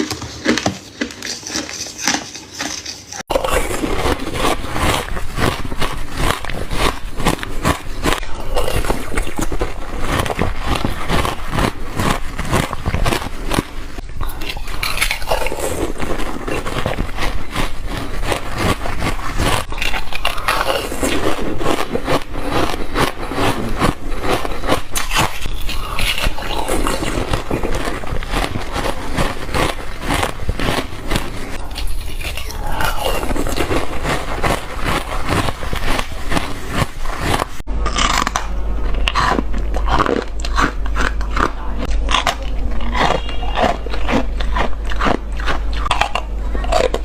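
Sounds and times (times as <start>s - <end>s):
chewing crushed ice: 0.0s - 47.0s.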